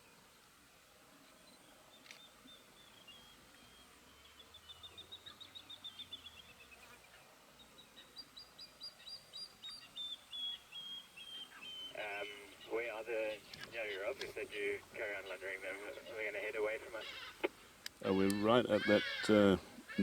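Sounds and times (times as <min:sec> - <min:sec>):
bird chirping: 0:01.1 - 0:20.0.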